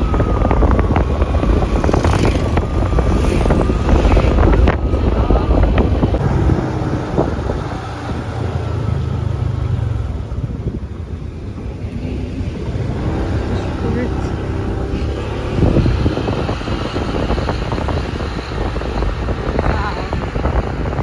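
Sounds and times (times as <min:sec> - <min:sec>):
vehicle engine rumble: 0:00.0 - 0:21.0
wind buffeting microphone: 0:00.0 - 0:21.0.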